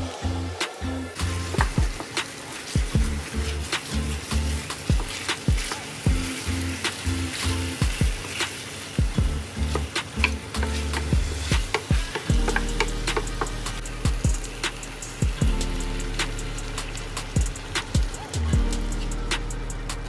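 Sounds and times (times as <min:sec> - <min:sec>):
background music with a beat: 0:00.0 - 0:20.0
chicken sizzling in a frying pan: 0:00.1 - 0:20.0.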